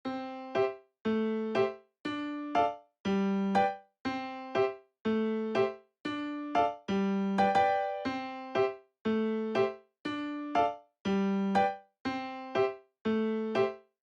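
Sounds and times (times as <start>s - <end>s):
electric piano tune: 0.0s - 13.9s.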